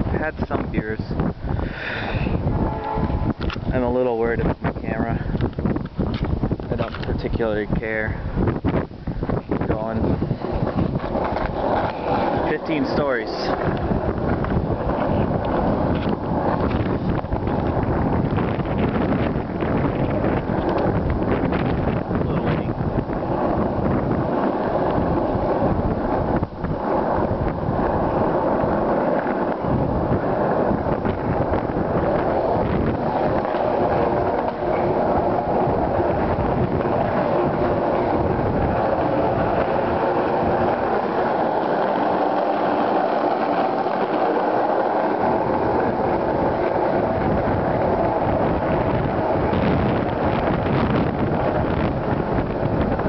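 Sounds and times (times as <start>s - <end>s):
skateboard wheels rolling on concrete: 0.0s - 53.0s
wind buffeting microphone: 0.0s - 53.0s.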